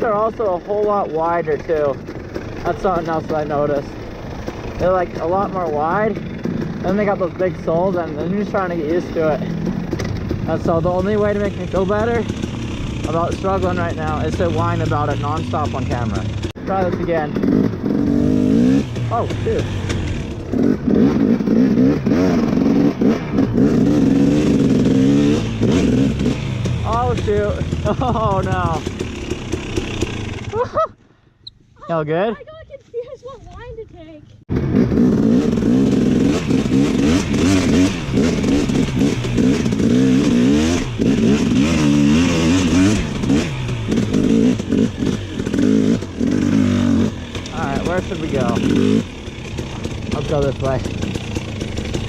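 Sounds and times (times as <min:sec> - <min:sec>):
dirt bike engine revving: 0:00.0 - 0:30.8, 0:34.5 - 0:52.0.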